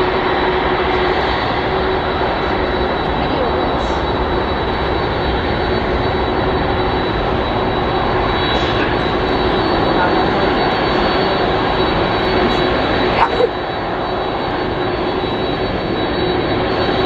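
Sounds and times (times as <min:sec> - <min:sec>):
high jet whine: 0:00.0 - 0:17.0
jet engine rumble: 0:00.0 - 0:17.0.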